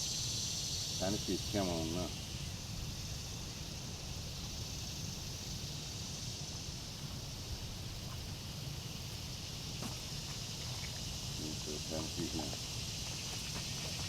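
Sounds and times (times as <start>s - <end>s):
high insect hum: 0.0s - 14.0s.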